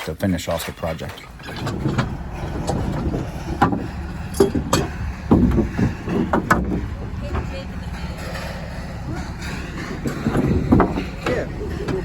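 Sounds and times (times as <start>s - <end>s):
sharp knocks and clacks: 0.6s - 12.0s
vehicle rumble: 0.7s - 12.0s.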